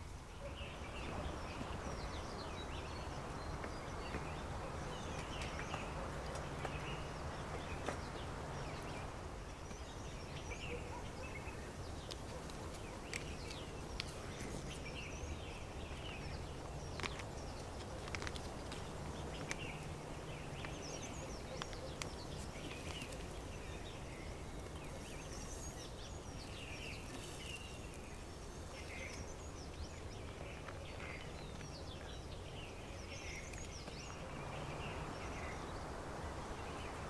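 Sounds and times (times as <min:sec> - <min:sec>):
outdoor background hiss: 0:00.0 - 0:37.0
small birds chirping: 0:00.0 - 0:37.0.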